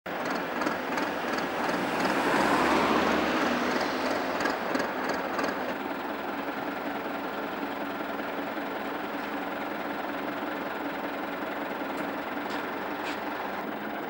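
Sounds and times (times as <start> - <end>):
diesel engine running: 0.1 - 14.0.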